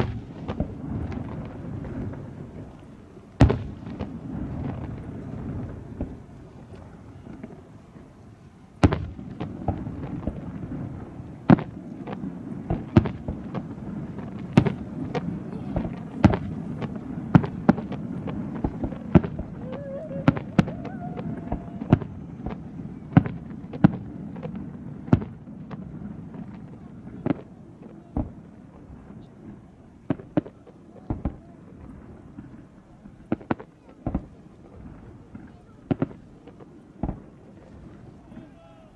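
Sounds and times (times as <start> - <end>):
fireworks bursting bangs: 0.0 - 38.9.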